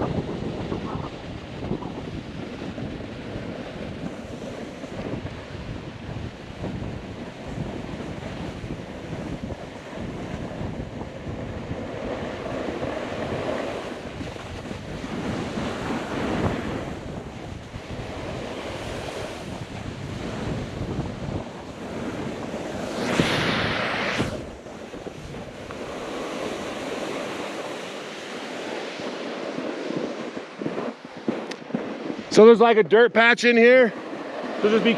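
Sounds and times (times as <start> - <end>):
wind buffeting microphone: 0.0 - 34.9
snowboard carving through slush: 0.1 - 5.6, 6.6 - 32.2.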